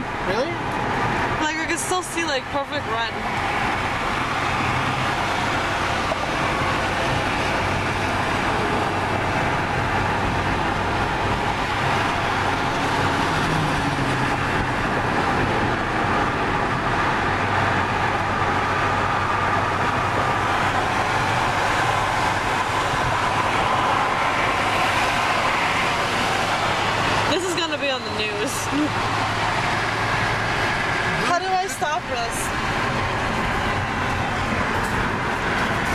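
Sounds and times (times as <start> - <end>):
car road noise at speed: 0.0 - 35.9
passing traffic: 0.0 - 35.9.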